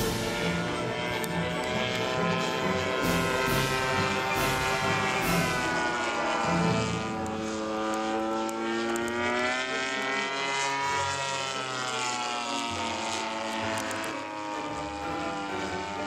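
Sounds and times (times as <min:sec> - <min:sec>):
model airplane engine droning: 0:00.0 - 0:16.0.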